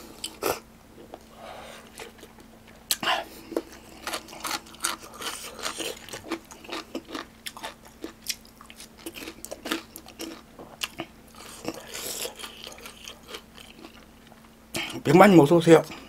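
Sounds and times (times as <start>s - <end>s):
person chewing food: 0.0s - 15.0s
mouth clicks and crunches: 1.8s - 14.9s.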